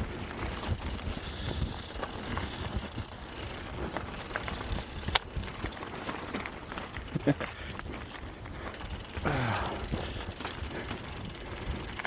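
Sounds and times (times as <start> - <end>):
bike knocks and rattles: 0.0 - 12.0
bike tyres crunching over rock: 0.0 - 12.0.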